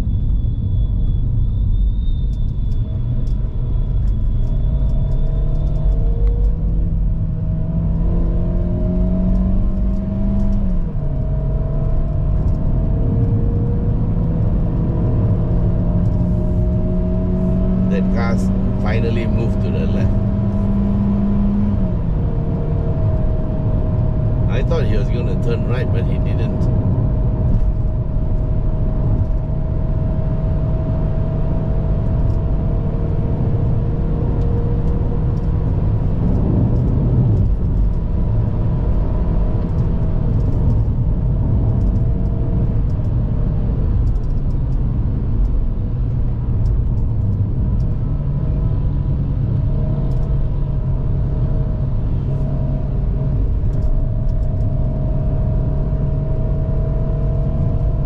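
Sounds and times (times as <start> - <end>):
car engine pulling uphill: 0.0 - 58.0
road noise rumble: 0.0 - 58.0.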